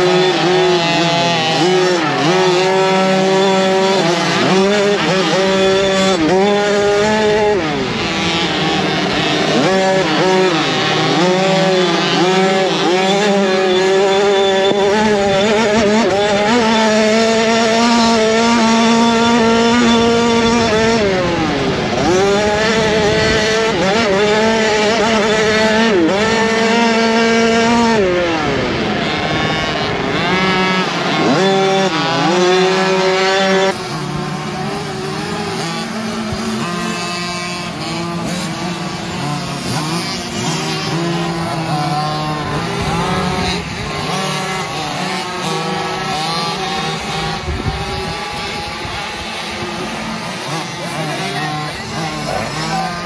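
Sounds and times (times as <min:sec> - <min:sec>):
distant bikes passing: 0:00.0 - 0:53.0
motocross bike engine revving: 0:00.0 - 0:53.0.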